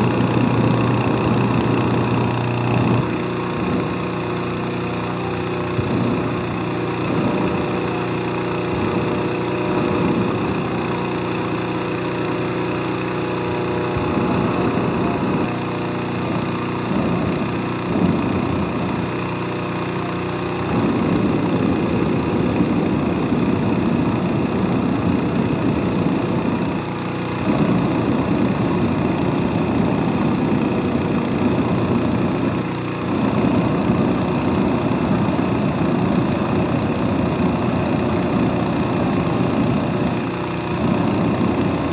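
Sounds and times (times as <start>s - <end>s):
propane burner blasts: 0.0s - 41.9s
small petrol engine running: 0.0s - 41.9s.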